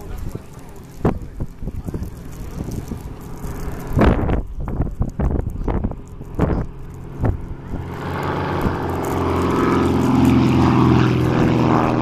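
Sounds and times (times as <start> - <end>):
propeller aircraft engine drone: 0.0 - 12.0
wind thumping microphone: 0.0 - 12.0.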